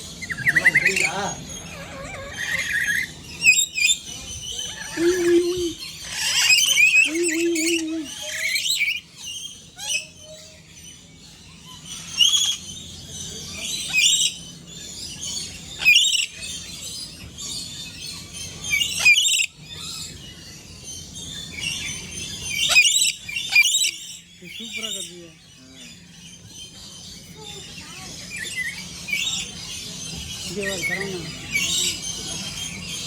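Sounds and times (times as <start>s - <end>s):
quiet bird chirping: 0.0s - 33.0s.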